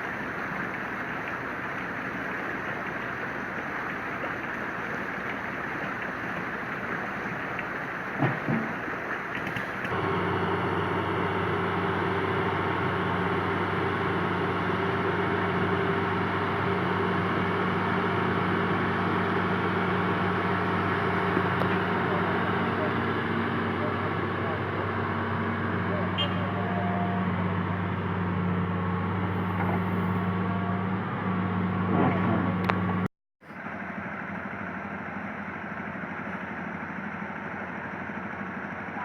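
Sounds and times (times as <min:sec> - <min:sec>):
excavator diesel engine humming: 0:00.0 - 0:39.0.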